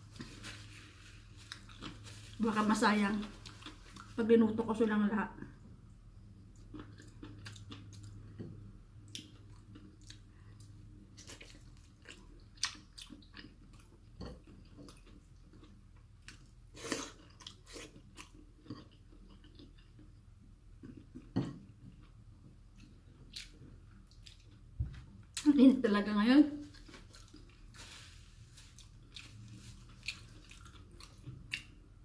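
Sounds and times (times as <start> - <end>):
person chewing food: 0.1 - 2.4, 6.3 - 25.4, 26.7 - 32.0.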